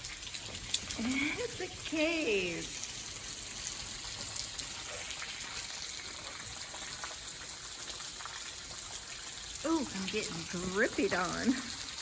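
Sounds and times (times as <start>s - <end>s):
water drips: 0.0s - 12.0s
water trickling: 0.0s - 12.0s.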